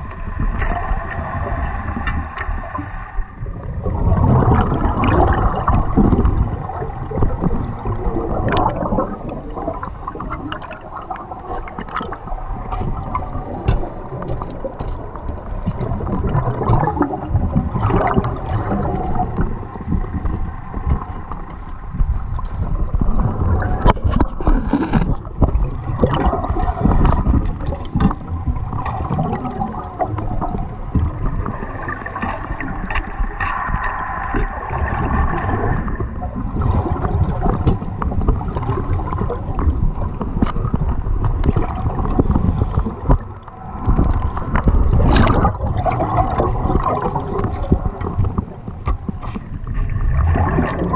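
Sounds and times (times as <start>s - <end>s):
diver's bubbles gurgling: 0.0s - 50.9s
low rumble of moving water: 0.0s - 50.9s.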